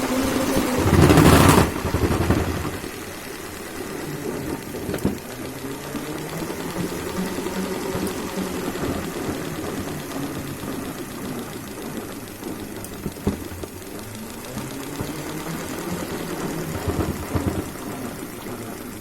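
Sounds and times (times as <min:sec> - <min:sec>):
salad spinner whirring: 0:00.0 - 0:19.0.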